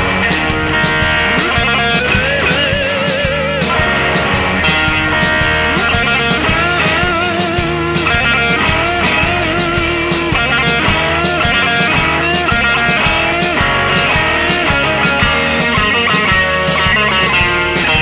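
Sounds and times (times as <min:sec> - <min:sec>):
guitar with vibrato: 0:00.0 - 0:18.0
steady drum beat: 0:00.0 - 0:18.0.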